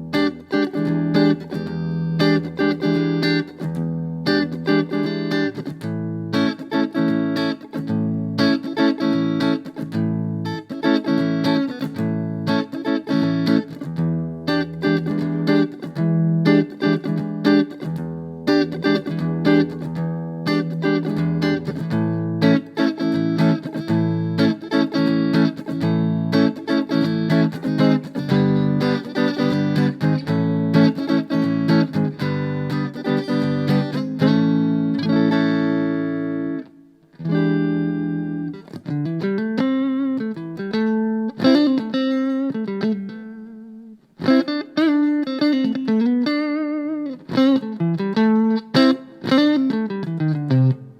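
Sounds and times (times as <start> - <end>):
clean electric guitar: 0.0 - 50.9.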